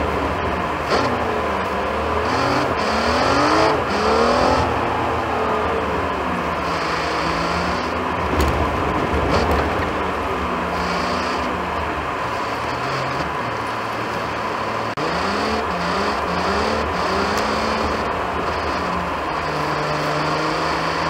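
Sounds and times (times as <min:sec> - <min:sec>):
car engine from inside cabin: 0:00.0 - 0:21.0
road noise: 0:00.0 - 0:21.0.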